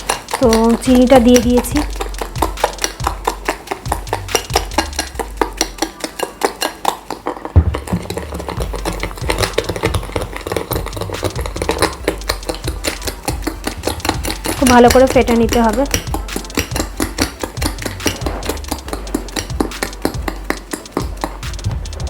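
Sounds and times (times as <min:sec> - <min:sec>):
spoon beating in a bowl: 0:00.0 - 0:21.9.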